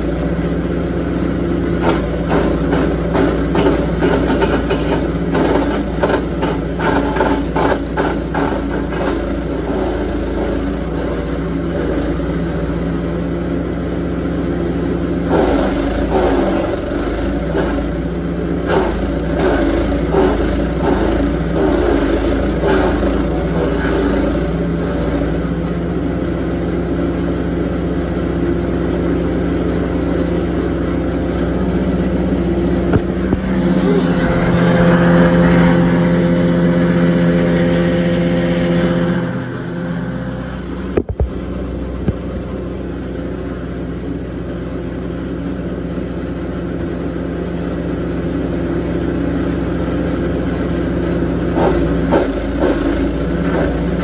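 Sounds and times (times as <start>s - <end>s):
wood chipper engine running: 0.0s - 54.0s.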